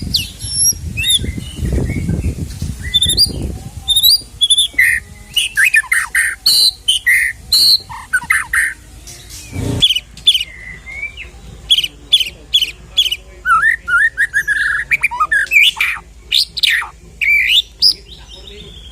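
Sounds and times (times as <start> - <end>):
bird singing whistles and trills: 0.0 - 18.9.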